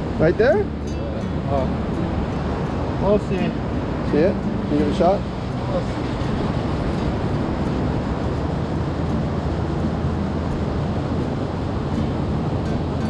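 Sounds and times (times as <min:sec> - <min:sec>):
ocean surf rushing: 0:00.0 - 0:13.0
wind buffeting microphone: 0:00.0 - 0:13.0.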